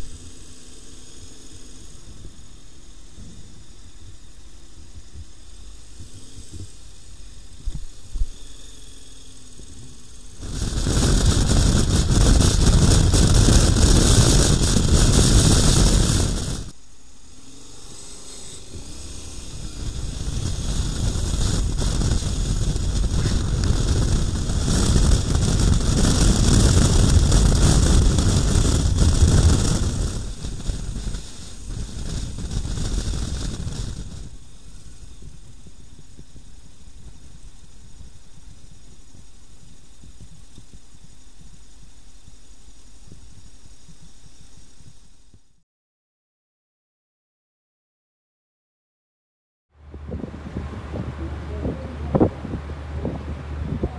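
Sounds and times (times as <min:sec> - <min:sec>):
motorcycle wind and road noise: 0:00.0 - 0:41.9, 0:49.8 - 0:53.9.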